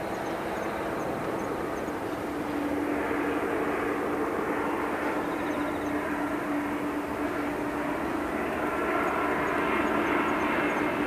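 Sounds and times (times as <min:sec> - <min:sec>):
jet airliner noise: 0:00.0 - 0:11.0
low hum: 0:00.0 - 0:11.0.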